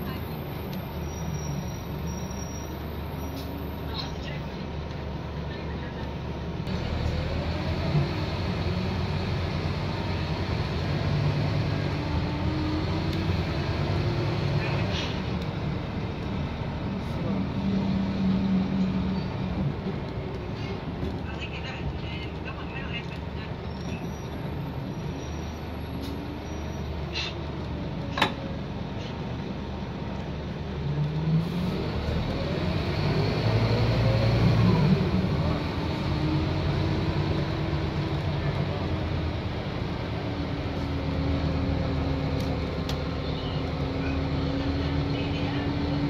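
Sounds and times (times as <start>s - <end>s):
bus diesel engine rumble: 0.0s - 46.0s.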